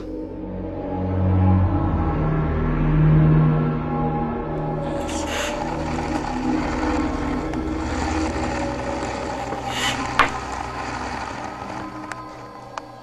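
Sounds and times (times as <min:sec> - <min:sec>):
ominous droning music: 0:00.0 - 0:13.0.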